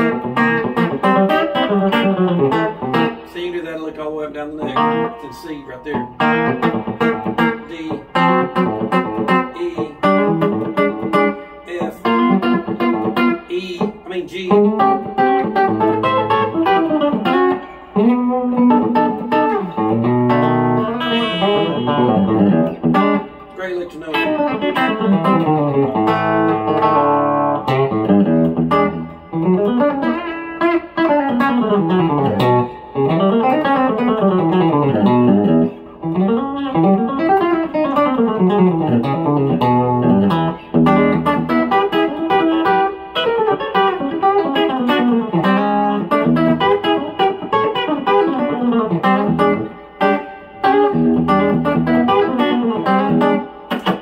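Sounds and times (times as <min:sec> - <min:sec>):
electric guitar playing country licks: 0:00.0 - 0:54.0.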